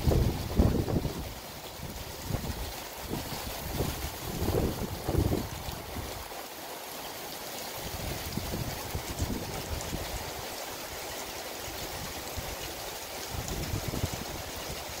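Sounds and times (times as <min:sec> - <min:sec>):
wind rumble on microphone: 0:00.0 - 0:06.2, 0:07.8 - 0:10.4, 0:11.8 - 0:15.0
rain on trees: 0:00.0 - 0:15.0.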